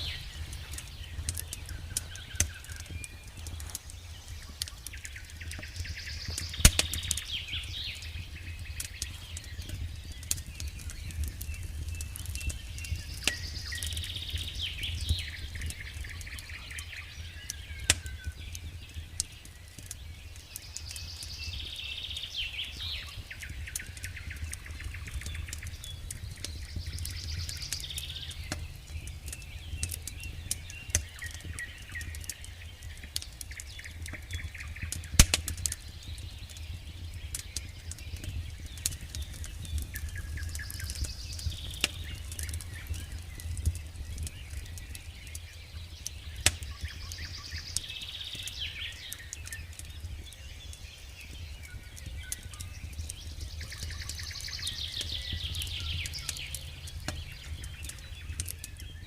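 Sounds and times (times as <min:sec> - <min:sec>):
campfire crackling and popping: 0:00.0 - 0:59.0
songbird singing: 0:00.0 - 0:59.0.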